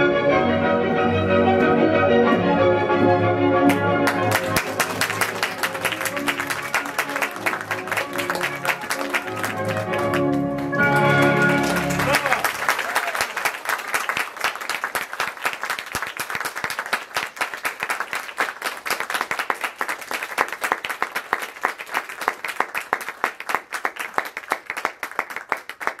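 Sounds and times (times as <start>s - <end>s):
audience applauding: 3.7s - 26.0s.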